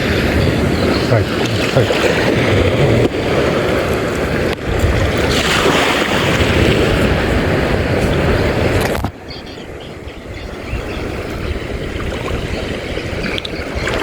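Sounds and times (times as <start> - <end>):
sea water: 0.0 - 14.0
wind rushing over microphone: 0.0 - 14.0.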